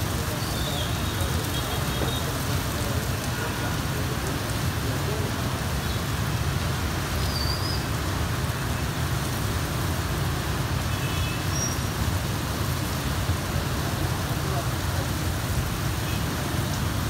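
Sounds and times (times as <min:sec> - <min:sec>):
rain falling: 0:00.0 - 0:17.0
tyres hissing through water: 0:00.0 - 0:17.0.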